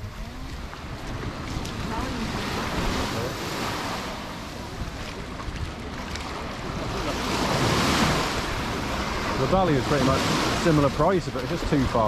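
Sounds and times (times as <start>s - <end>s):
sea surf breaking on shore: 0.0s - 12.0s
wind rumbling on microphone: 0.0s - 12.0s.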